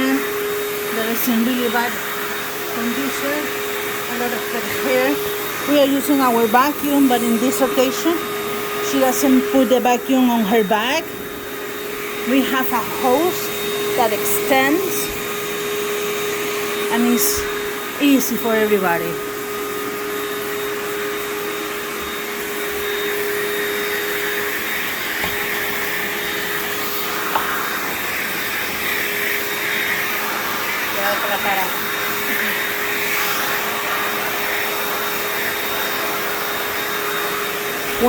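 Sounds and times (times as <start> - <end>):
vacuum cleaner running: 0.0 - 38.0.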